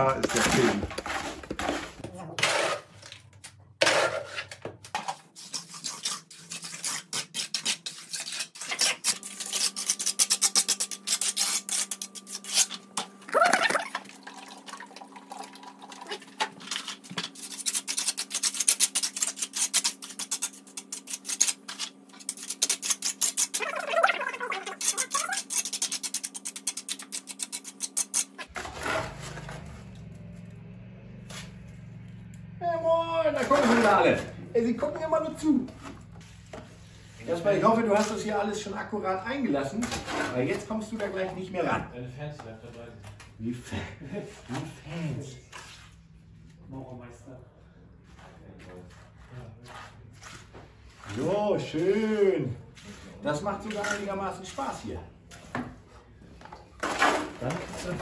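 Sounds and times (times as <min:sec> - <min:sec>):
rough scraping on concrete: 0:00.0 - 0:13.1, 0:16.4 - 0:30.3, 0:31.2 - 0:31.9, 0:33.4 - 0:38.7, 0:39.7 - 0:41.6, 0:42.7 - 0:46.6, 0:48.1 - 0:58.0.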